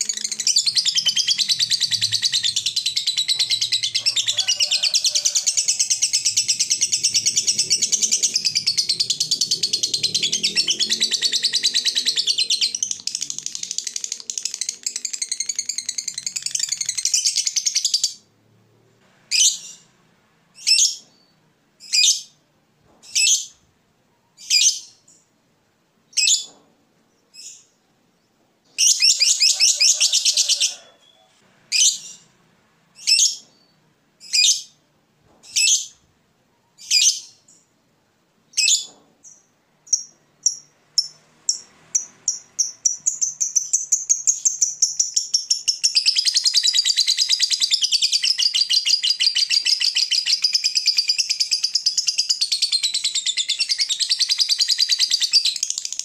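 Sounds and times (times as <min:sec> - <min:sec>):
lovebird chirping and trilling: 0:00.0 - 0:18.3, 0:19.3 - 0:19.9, 0:20.6 - 0:22.4, 0:23.0 - 0:23.6, 0:24.2 - 0:25.2, 0:26.1 - 0:26.6, 0:28.7 - 0:32.3, 0:33.0 - 0:34.8, 0:35.4 - 0:36.0, 0:36.6 - 0:37.6, 0:38.5 - 0:56.0.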